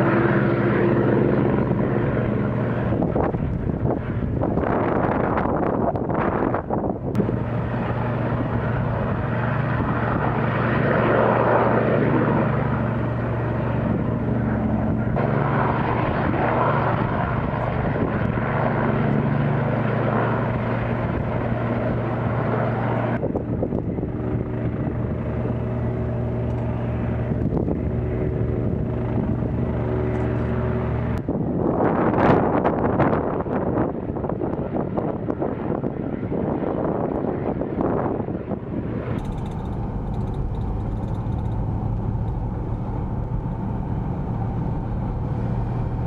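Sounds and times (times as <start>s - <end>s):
helicopter rotor droning: 0.0s - 46.0s.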